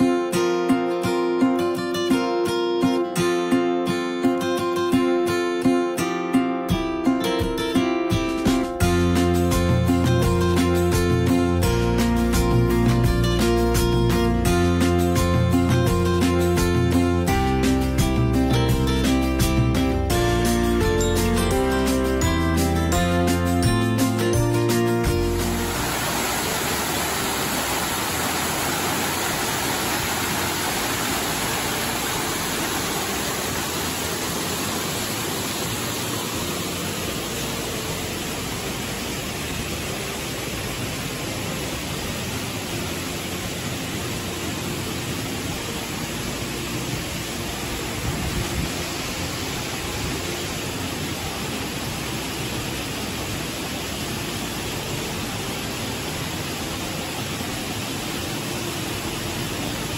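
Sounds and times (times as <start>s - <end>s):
waterfall rushing: 7.0s - 59.9s.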